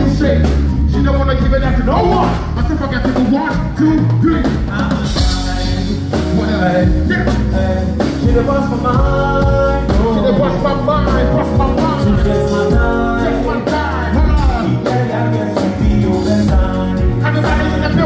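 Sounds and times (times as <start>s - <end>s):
drum kit beat: 0.0s - 18.0s
lead vocal singing: 0.0s - 18.0s
live band playing: 0.0s - 18.0s.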